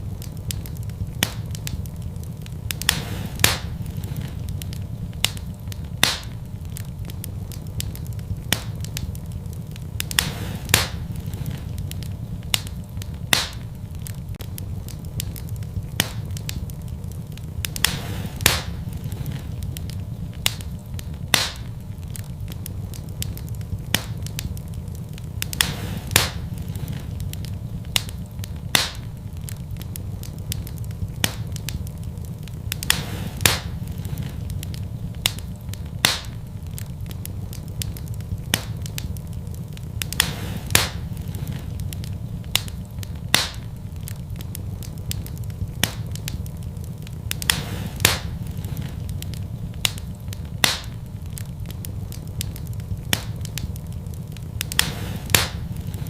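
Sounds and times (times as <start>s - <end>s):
fire crackling and popping: 0.0s - 56.0s
fire rumbling in a fireplace: 0.0s - 56.0s.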